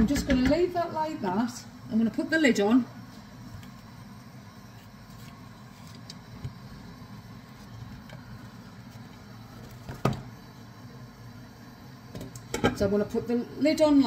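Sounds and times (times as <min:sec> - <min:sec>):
gas cooker rumbling: 0:00.0 - 0:14.0.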